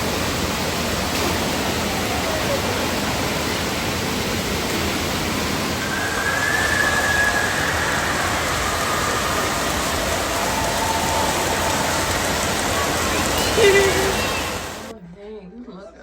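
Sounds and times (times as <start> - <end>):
rushing falling water: 0.0 - 14.9.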